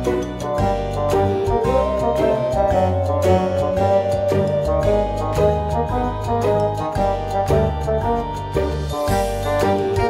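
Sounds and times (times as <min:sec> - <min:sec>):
background music with a beat: 0:00.0 - 0:10.0
gliding melody note: 0:00.0 - 0:10.0.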